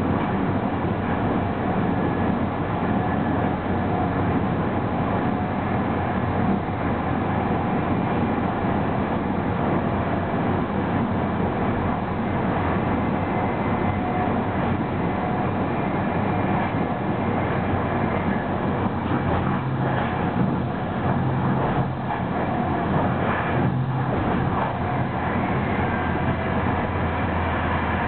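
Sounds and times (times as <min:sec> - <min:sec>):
faint steady whine: 0:00.0 - 0:28.0
rushing air: 0:00.0 - 0:28.0
train wheels rumbling on rail: 0:00.0 - 0:28.0.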